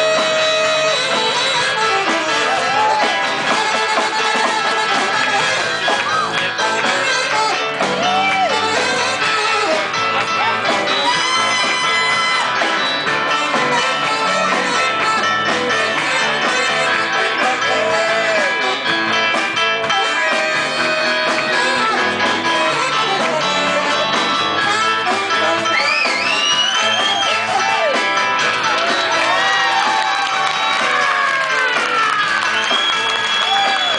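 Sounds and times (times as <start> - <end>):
guitar with bending notes: 0.0 - 33.9
live band playing: 0.0 - 33.9.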